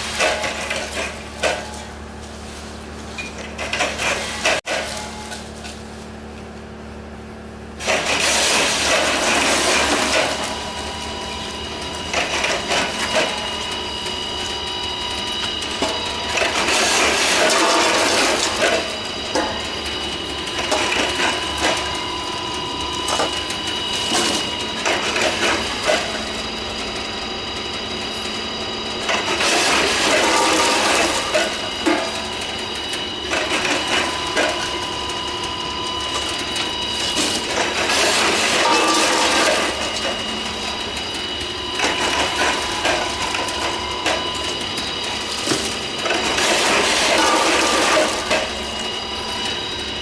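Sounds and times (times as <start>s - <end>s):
machine motor hum and whine: 0.0s - 50.0s.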